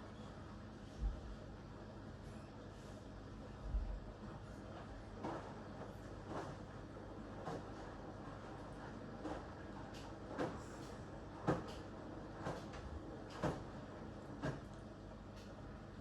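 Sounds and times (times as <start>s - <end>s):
washing machine hum: 0.0s - 16.0s.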